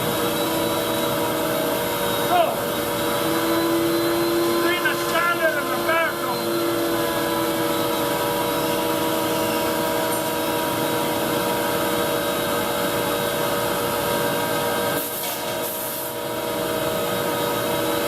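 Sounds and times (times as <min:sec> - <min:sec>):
woodworking machinery whining: 0:00.0 - 0:15.0.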